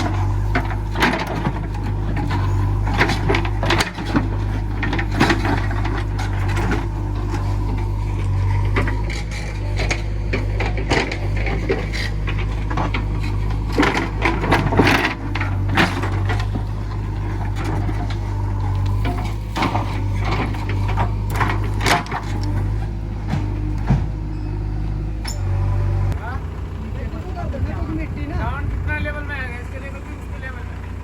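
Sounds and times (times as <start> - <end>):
machine clanks and scrapes: 0.0 - 27.2
diesel engine running: 0.0 - 31.0.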